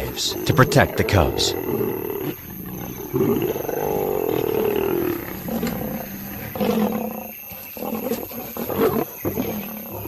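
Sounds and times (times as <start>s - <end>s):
lions giving aggressive calls: 0.0s - 10.0s.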